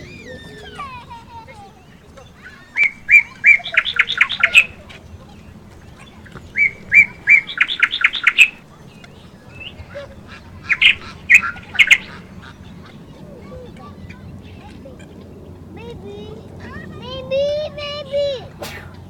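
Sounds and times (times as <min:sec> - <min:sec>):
ducks calling: 0:00.0 - 0:15.8.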